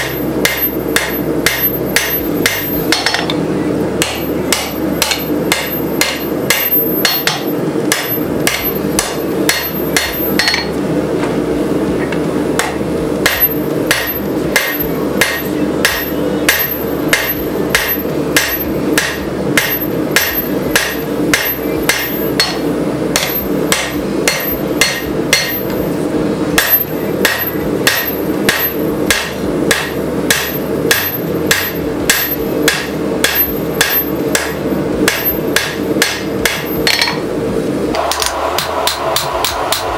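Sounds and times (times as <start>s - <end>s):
hammer striking metal on anvil: 0.0s - 3.4s, 4.0s - 10.8s, 12.6s - 25.8s, 26.6s - 37.3s, 37.9s - 39.9s.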